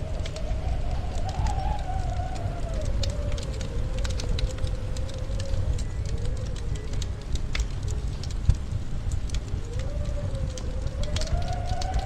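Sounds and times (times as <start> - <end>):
wind whistling: 0.0 - 12.0
wood fire crackling and popping: 0.0 - 12.0.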